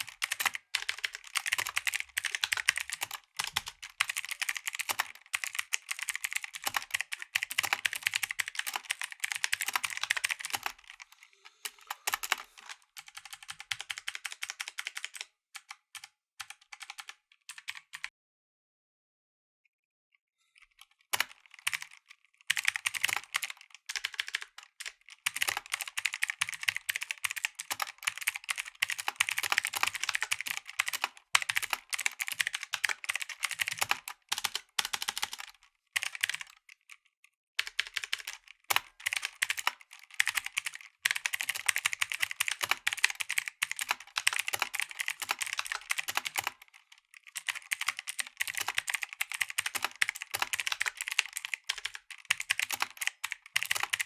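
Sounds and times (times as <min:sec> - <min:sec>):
mechanical keyboard typing: 0:00.0 - 0:18.1, 0:20.6 - 0:37.0, 0:37.6 - 0:54.0.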